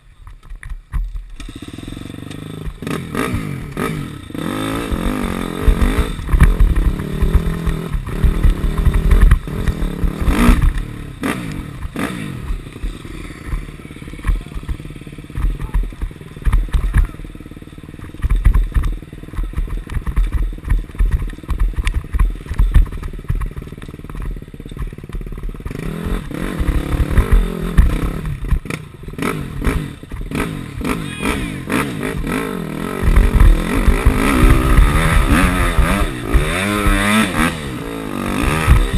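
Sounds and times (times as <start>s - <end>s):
dirt bike engine revving: 1.1s - 38.9s.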